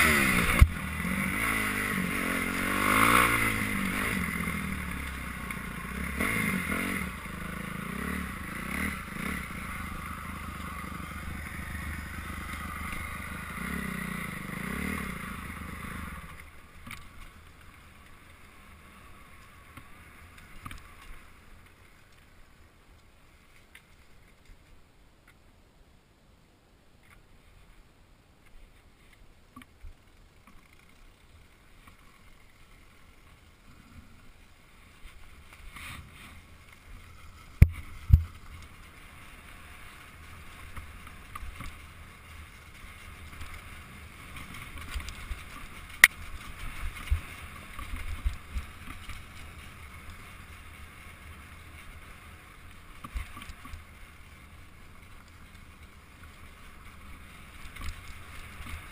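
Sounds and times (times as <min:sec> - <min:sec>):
dirt bike engine rumbling: 0:00.0 - 0:22.6, 0:32.4 - 0:58.9
wind: 0:00.0 - 0:58.9.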